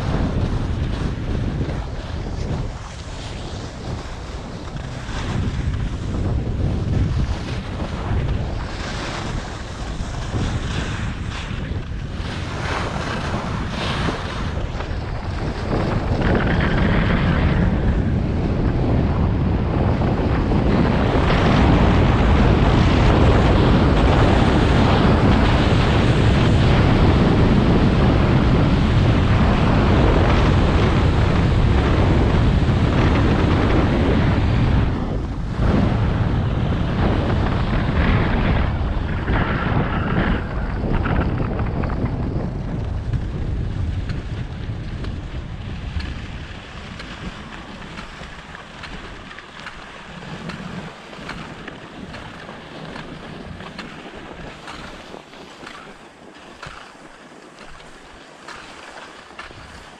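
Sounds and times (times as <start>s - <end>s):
skis scraping over snow: 0.0s - 59.9s
wind buffeting microphone: 0.0s - 59.9s.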